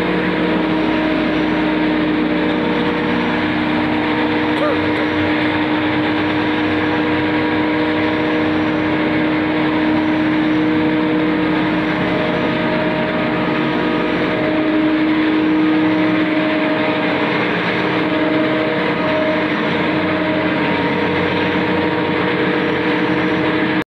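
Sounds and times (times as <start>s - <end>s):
spice grinding machine motor hum: 0.0s - 23.8s.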